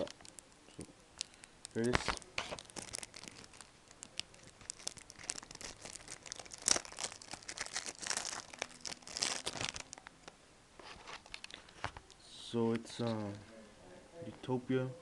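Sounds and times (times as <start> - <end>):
plastic wrapping crinkling and tearing: 0.0 - 12.2.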